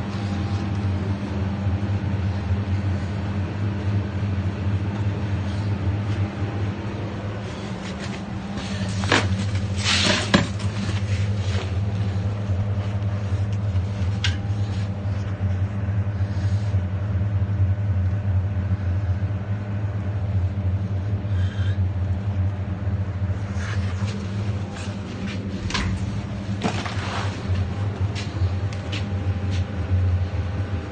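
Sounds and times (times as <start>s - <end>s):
low mechanical hum: 0.0s - 30.9s.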